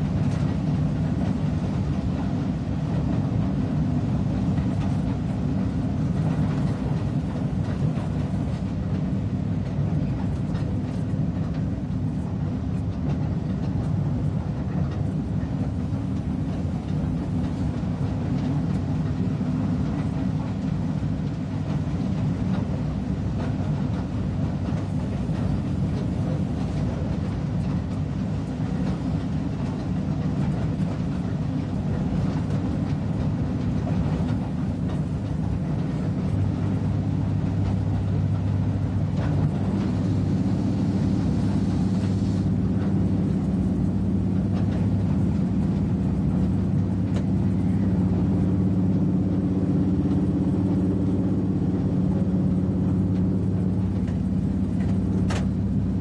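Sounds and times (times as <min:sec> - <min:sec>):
low steady hum: 0:00.0 - 0:13.8, 0:14.6 - 0:56.0
train wheels rumbling on rail: 0:00.0 - 0:56.0.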